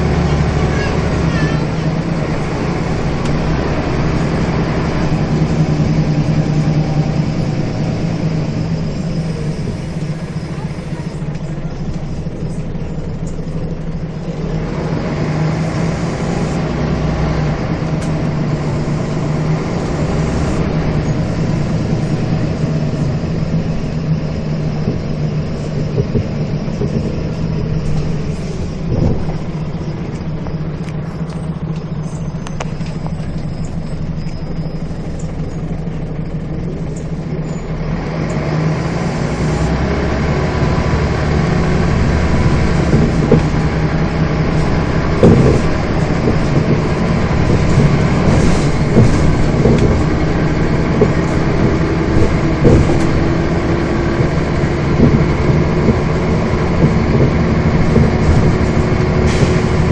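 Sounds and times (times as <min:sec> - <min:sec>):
bus engine: 0:00.0 - 0:59.9
bus knocks and rattles: 0:00.0 - 0:59.9.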